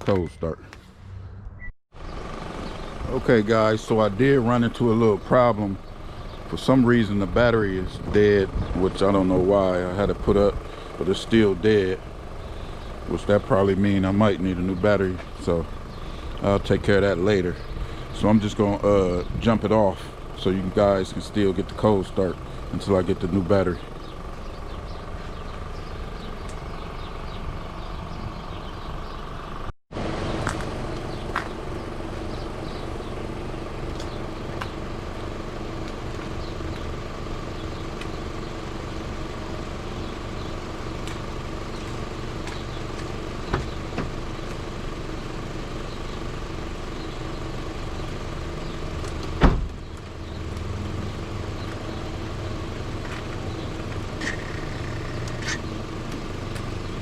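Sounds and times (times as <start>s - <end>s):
car engine idling: 2.0s - 57.0s.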